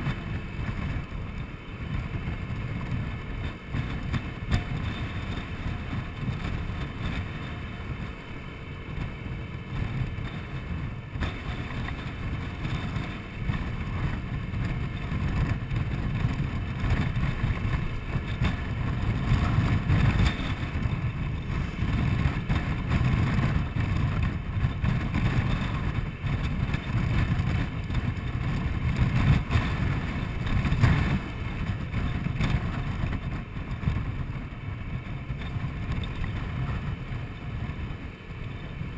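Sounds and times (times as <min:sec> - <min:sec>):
scooter engine running: 0:00.0 - 0:38.9
wind buffeting microphone: 0:00.0 - 0:38.9.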